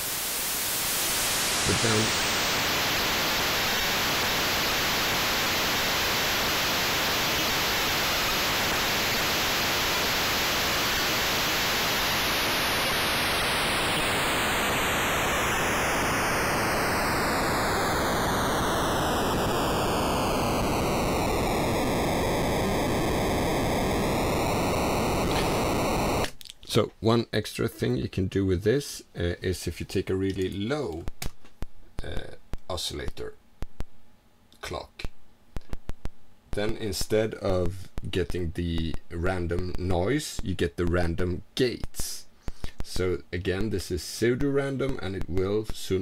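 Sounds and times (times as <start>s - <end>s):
digital noise hiss: 0.0s - 27.5s, 28.1s - 34.0s, 34.6s - 46.0s.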